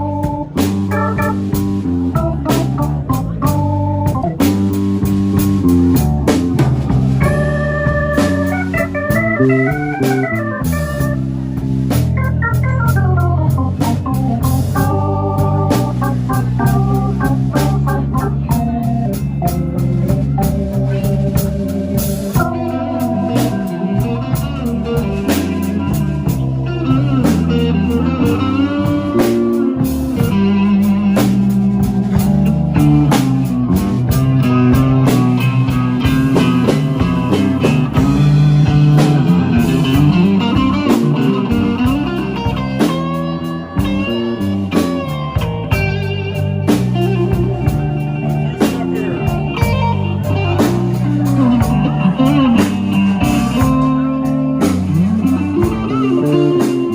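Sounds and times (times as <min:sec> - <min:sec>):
bass: 0:00.0 - 0:56.9
drums: 0:00.0 - 0:56.9
electric guitar bending notes: 0:00.0 - 0:56.9.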